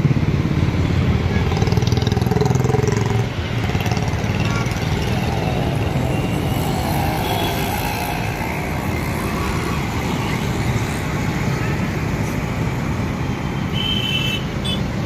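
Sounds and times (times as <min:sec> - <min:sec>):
motorbikes: 0:00.0 - 0:15.0
passing cars: 0:00.0 - 0:15.0.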